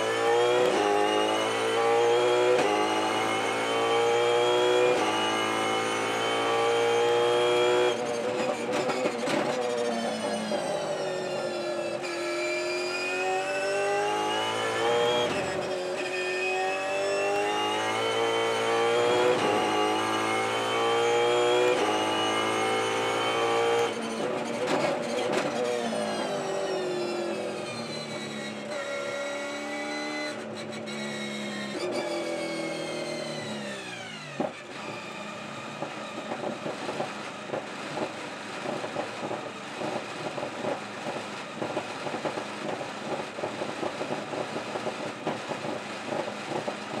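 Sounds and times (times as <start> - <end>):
race car engine shifting gears: 0.0 - 10.6, 16.8 - 28.8, 29.7 - 47.0.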